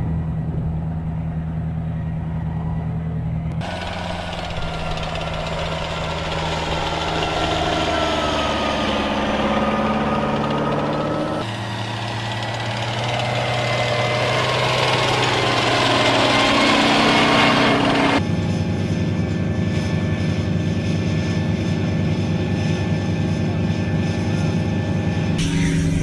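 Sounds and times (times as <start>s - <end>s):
diesel engine running: 0.0s - 26.0s
thin whine: 0.0s - 26.0s.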